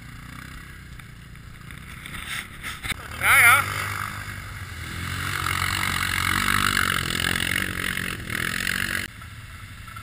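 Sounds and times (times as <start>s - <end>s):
quad bike engine running: 0.0s - 10.0s
wind: 0.0s - 10.0s.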